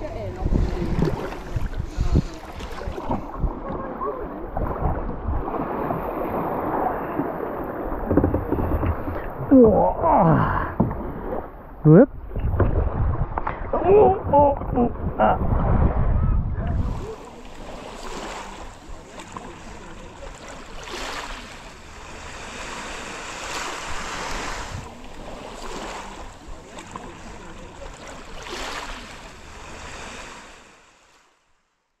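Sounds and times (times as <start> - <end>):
small waves washing onto sand: 0.0 - 10.0, 10.8 - 31.6.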